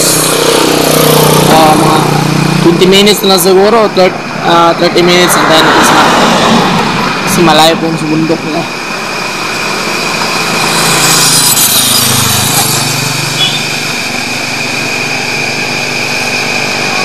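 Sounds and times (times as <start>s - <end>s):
steady high-pitched whine: 0.0s - 17.0s
vehicle passing on road: 0.0s - 17.0s.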